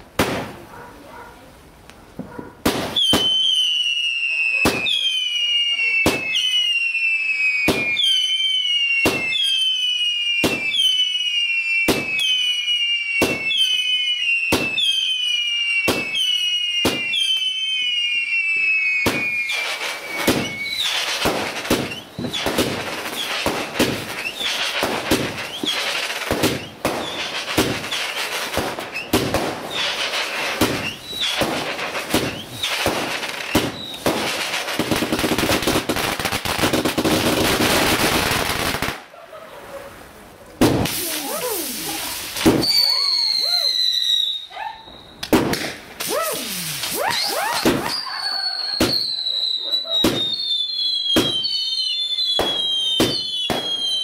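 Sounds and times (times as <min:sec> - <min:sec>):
firework crackling: 0:00.0 - 0:00.7, 0:01.8 - 0:54.0
firework bangs: 0:00.0 - 0:00.8, 0:02.1 - 0:39.2, 0:40.6 - 0:54.0
firework falling whistle: 0:02.8 - 0:34.4, 0:40.8 - 0:54.0.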